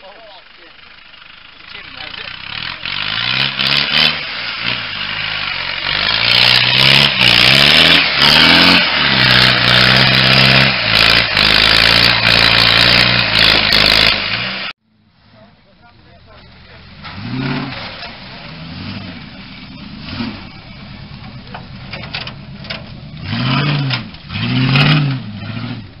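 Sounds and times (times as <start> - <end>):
engine revving under load: 1.7 - 14.8, 16.7 - 26.0.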